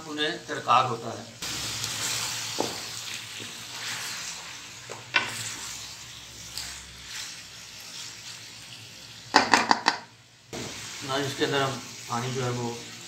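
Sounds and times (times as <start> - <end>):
meat and potatoes sizzling in oil: 0.0 - 13.0.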